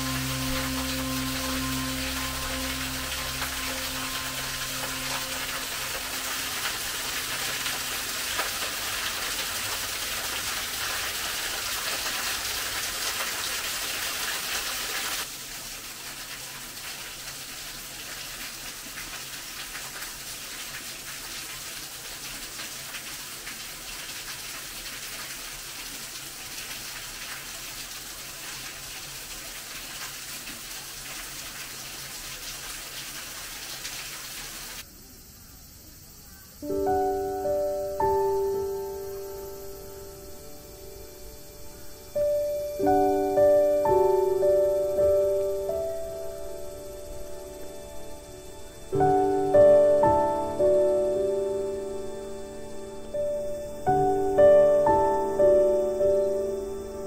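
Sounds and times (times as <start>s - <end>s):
waterfall splashing onto rocks: 0.0s - 34.9s, 36.6s - 47.6s.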